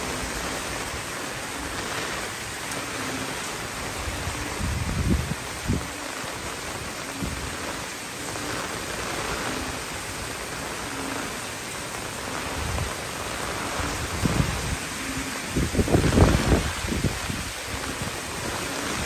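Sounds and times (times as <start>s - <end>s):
wind buffeting microphone: 0.0s - 10.9s, 12.2s - 19.0s
heavy rain hissing: 0.0s - 19.0s.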